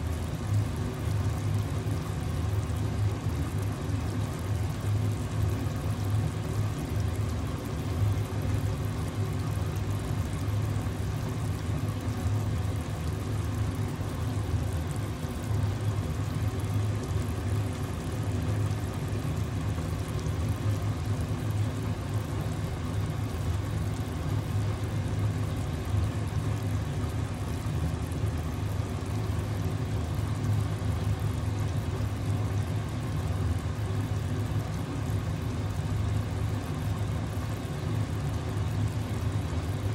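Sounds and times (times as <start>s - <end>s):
motor hum with rushing noise: 0.0s - 39.9s.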